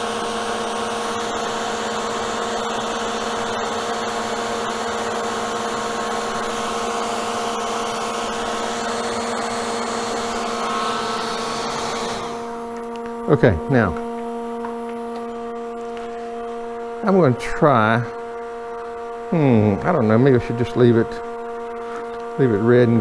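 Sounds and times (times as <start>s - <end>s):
hot-air blower running: 0.0s - 23.0s
motor hum: 0.0s - 23.0s.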